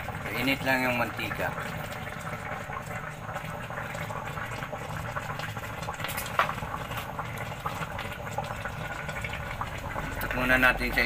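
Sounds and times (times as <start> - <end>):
pot of rice boiling: 0.0 - 11.0.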